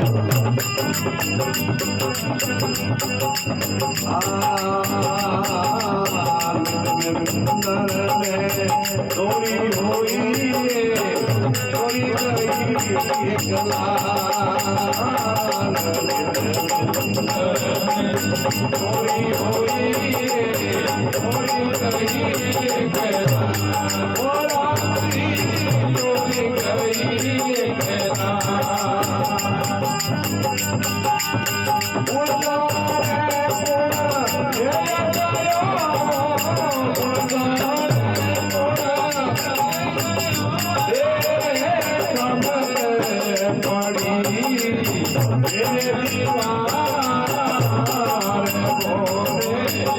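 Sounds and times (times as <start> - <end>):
jingling hand percussion: 0.0 - 49.9
wavering devotional melody: 0.0 - 49.9.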